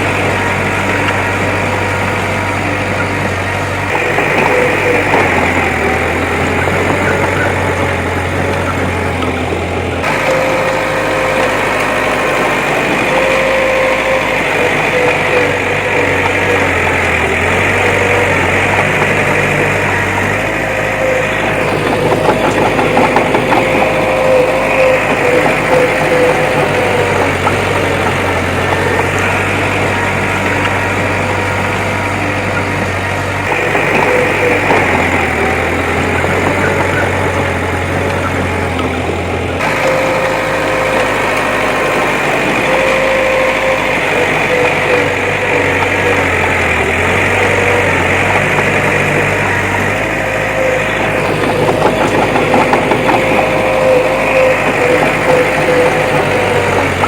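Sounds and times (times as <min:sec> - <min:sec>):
heavy diesel engine running: 0:00.0 - 0:57.0
machinery whine: 0:00.0 - 0:57.0
rattling: 0:00.0 - 0:57.0.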